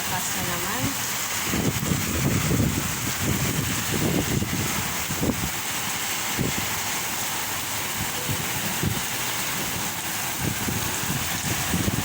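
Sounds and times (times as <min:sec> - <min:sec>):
heavy rain falling: 0:00.0 - 0:12.0
wind gusts buffeting microphone: 0:00.7 - 0:06.8, 0:07.9 - 0:12.0.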